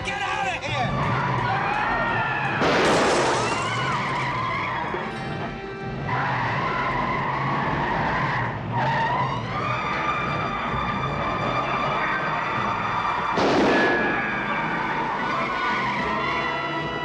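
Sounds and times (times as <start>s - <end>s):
background music: 0.0s - 17.0s
tyres squealing and skidding: 0.0s - 17.0s.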